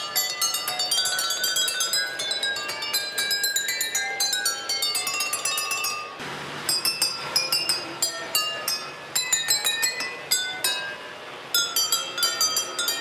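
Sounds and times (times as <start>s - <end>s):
wine glasses ringing melody: 0.0s - 13.0s.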